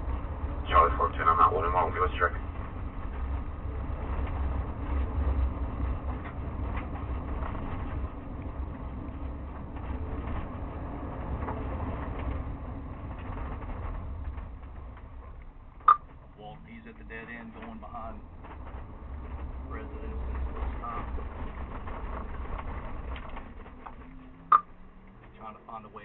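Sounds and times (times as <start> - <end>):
engine and tyre rumble: 0.0 - 26.0.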